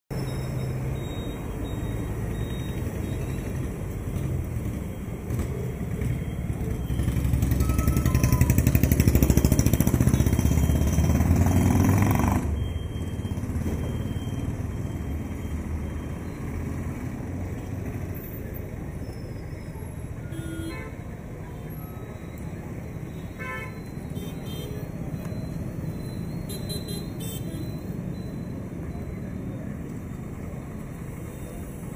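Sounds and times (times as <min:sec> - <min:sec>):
loud engine rumbling nearby: 0:00.1 - 0:31.9
passing vehicle engines: 0:00.1 - 0:31.9.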